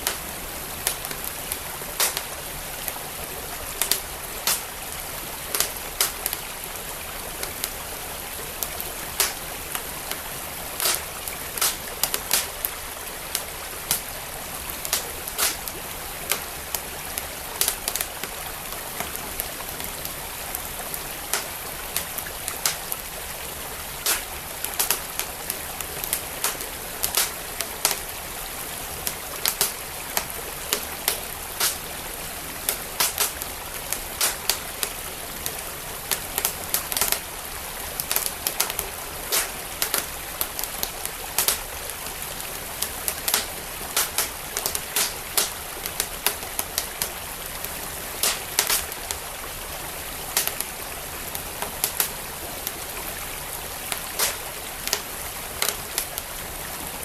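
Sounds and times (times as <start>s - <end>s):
wood fire crackling and popping: 0.0s - 52.9s, 53.9s - 56.3s
flowing creek: 0.0s - 57.0s.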